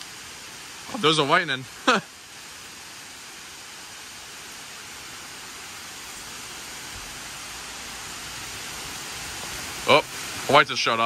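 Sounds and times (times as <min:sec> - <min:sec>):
falling rain hiss: 0:00.0 - 0:11.0.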